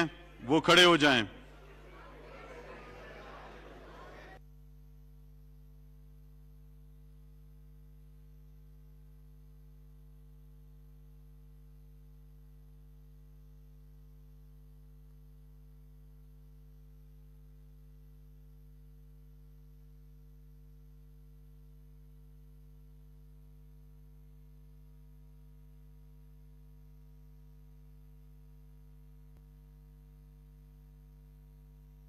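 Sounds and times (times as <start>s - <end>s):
low electrical mains hum: 0.0s - 32.0s.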